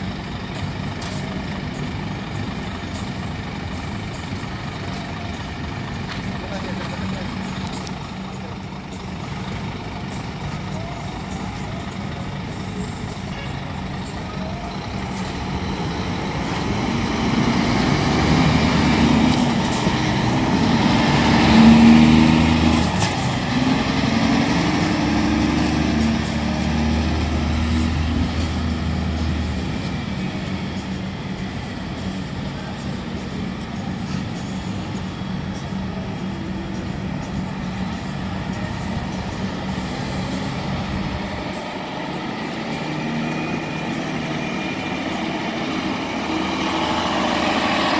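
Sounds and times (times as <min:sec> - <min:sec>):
diesel truck driving past: 0:00.0 - 0:47.9.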